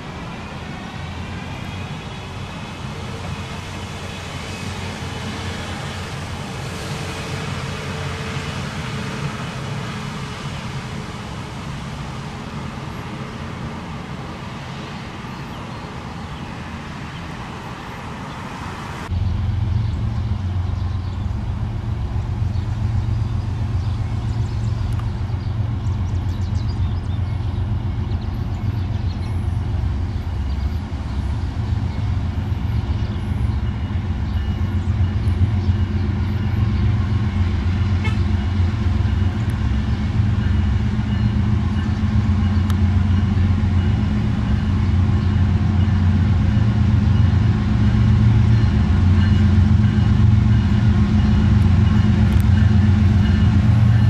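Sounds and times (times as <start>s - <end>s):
diesel locomotives rumbling: 0.0s - 54.0s.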